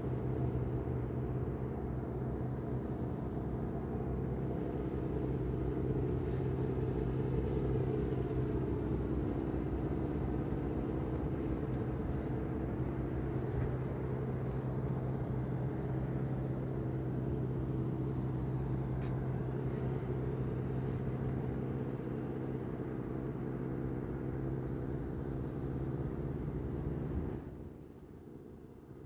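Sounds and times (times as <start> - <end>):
vehicle engine idling: 2.0 - 27.3.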